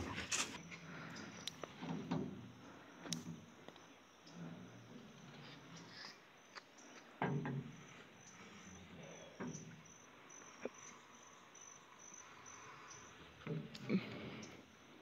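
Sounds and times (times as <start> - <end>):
insects chirping in pulsing trill: 0.0 - 15.0.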